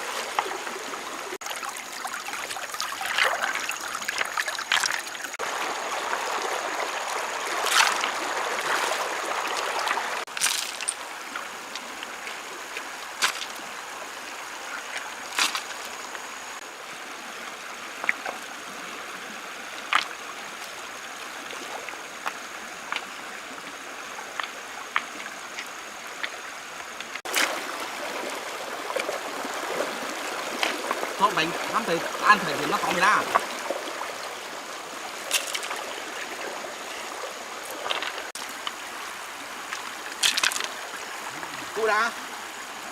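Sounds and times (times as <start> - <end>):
stream trickling: 0.0 - 42.9.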